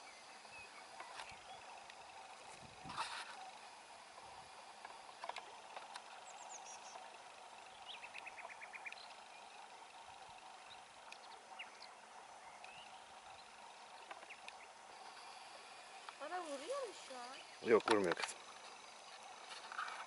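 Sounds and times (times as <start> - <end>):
low background hiss: 0.0 - 20.0
songbird chirps and trills: 0.0 - 20.0.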